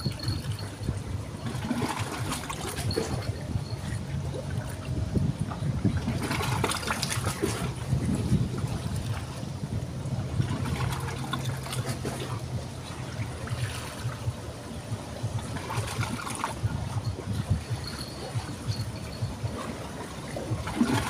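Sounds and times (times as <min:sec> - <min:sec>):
river water trickling: 0:00.0 - 0:21.0.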